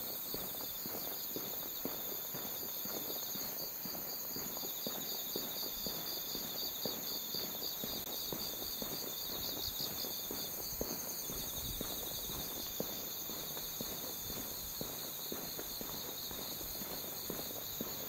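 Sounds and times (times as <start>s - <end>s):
crickets trilling: 0.0s - 18.0s
footsteps on concrete: 0.0s - 18.0s.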